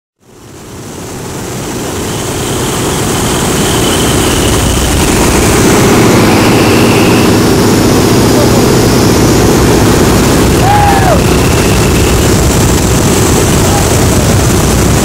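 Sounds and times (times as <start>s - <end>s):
biplane engine and propeller: 0.2s - 15.0s
wind rushing: 2.7s - 15.0s.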